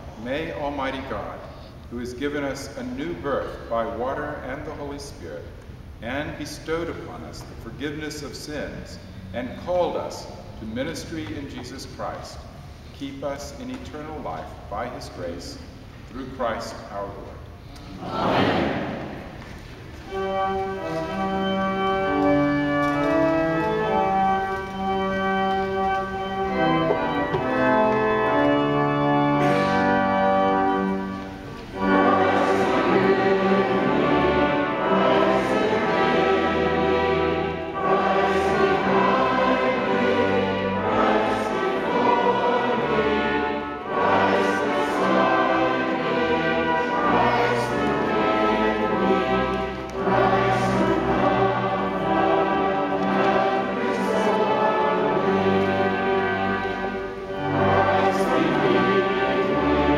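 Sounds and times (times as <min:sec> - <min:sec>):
organ playing a hymn: 0:00.0 - 0:59.9
congregation singing a hymn: 0:06.0 - 0:59.9.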